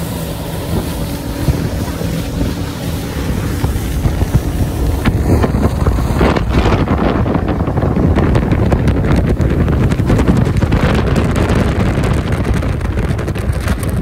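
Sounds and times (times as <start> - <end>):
outboard motor running: 0.0 - 14.0
rushing water: 0.0 - 14.0
wind buffeting microphone: 0.0 - 14.0.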